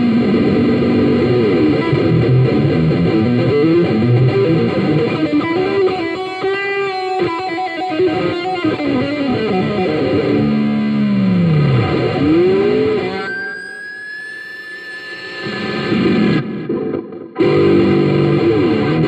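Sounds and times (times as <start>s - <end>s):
electric guitar with effects: 0.0s - 19.0s.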